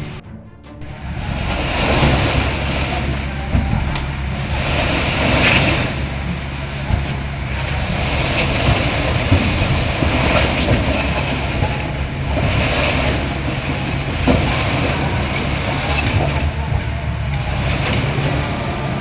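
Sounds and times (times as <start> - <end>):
diesel machinery engine running: 0.0 - 0.2, 0.8 - 19.0
short knocks: 0.8 - 19.0.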